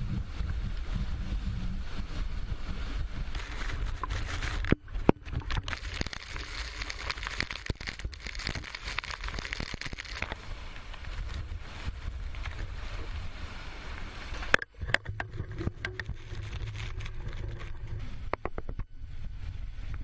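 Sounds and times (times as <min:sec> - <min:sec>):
rain hissing with crackling: 0:00.0 - 0:20.0
wind buffeting microphone: 0:00.0 - 0:20.0.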